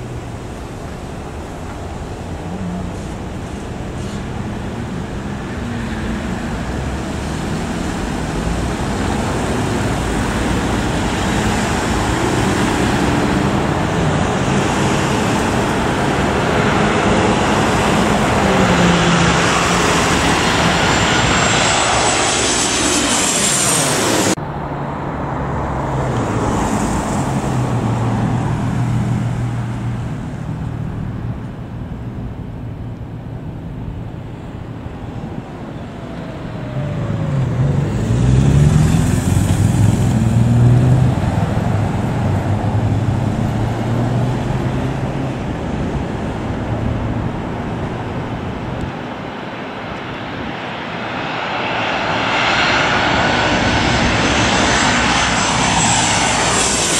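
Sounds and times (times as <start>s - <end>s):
jet passing with falling pitch: 0.0s - 31.8s, 32.7s - 56.9s
jet engine roar with high whine: 0.0s - 56.9s.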